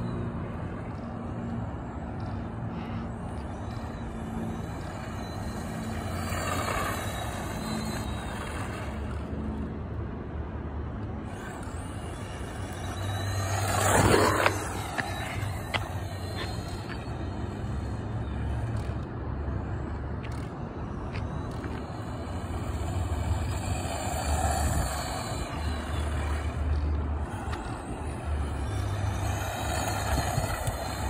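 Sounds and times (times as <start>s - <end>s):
rc truck motor and tyres: 0.0s - 31.0s.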